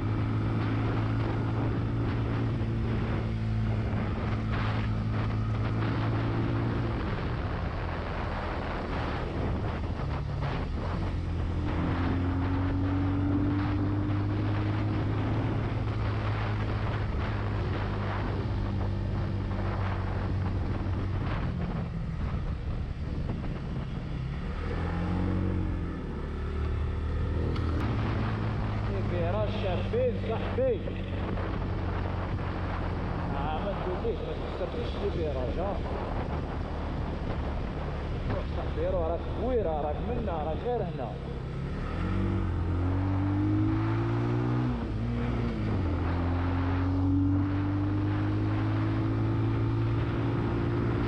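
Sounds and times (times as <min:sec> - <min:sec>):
wind rushing over microphone: 0:00.0 - 0:51.0.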